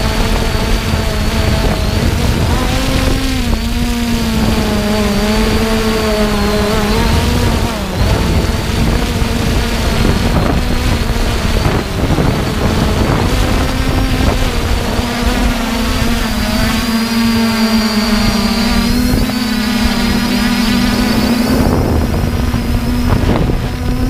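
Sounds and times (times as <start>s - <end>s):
quadcopter propellers buzzing: 0.0s - 24.0s
wind noise on microphone: 0.0s - 24.0s.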